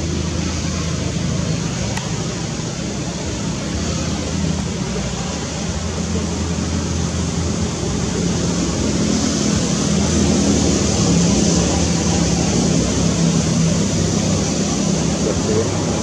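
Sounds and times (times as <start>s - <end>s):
broad rushing noise: 0.0s - 16.0s
low engine drone: 0.0s - 16.0s.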